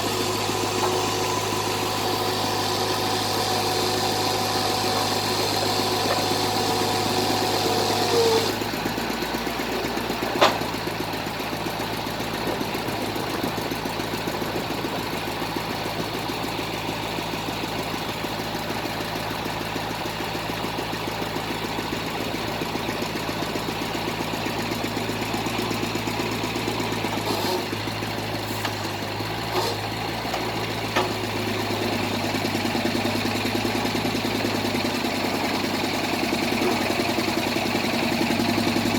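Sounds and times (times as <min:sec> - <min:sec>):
drilling rig engine running: 0:00.0 - 0:38.9.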